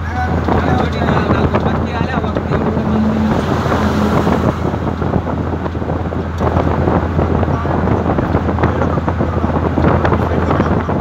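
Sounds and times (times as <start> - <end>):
car engine drone: 0.0 - 11.0
tyres and wind rumble: 0.0 - 11.0.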